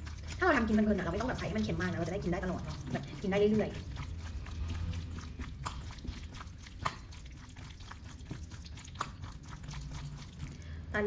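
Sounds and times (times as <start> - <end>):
wet squelching of kneaded meat: 0.0 - 11.0.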